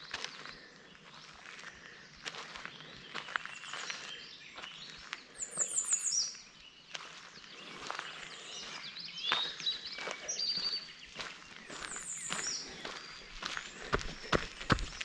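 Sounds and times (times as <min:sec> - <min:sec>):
footsteps crunching on trail: 0:00.0 - 0:15.0
songbirds singing: 0:00.0 - 0:15.0.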